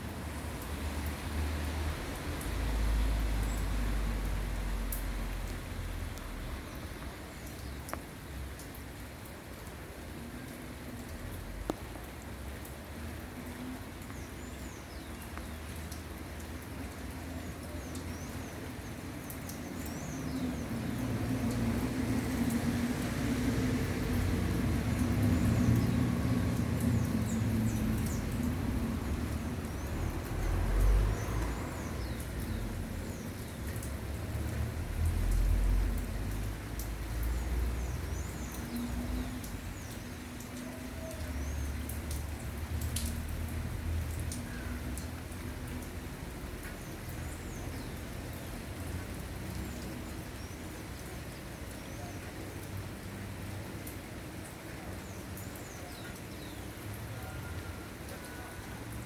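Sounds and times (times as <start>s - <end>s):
light rain falling: 0.0s - 59.0s
raindrops ticking: 0.0s - 59.0s.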